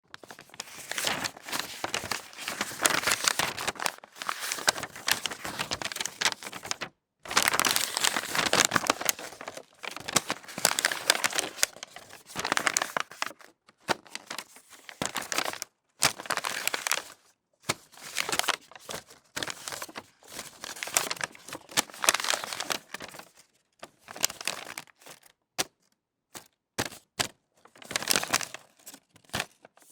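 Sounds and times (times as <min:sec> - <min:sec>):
paper crumpling and rustling: 0:00.1 - 0:25.3, 0:27.6 - 0:29.9.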